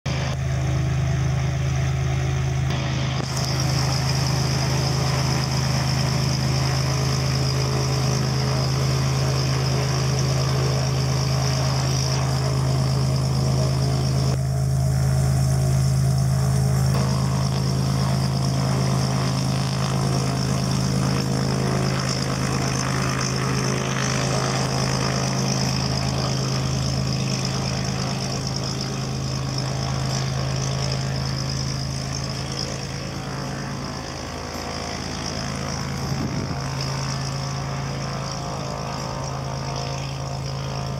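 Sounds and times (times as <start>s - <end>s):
propeller plane engine running: 0.0s - 40.9s.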